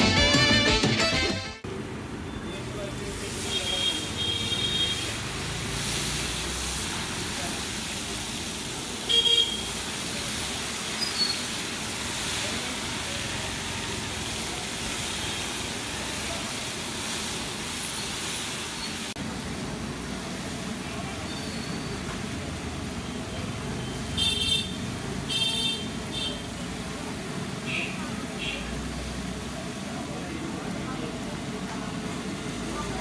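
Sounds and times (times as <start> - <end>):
street traffic: 1.0 - 33.0
batter frying in hot oil: 1.7 - 33.0.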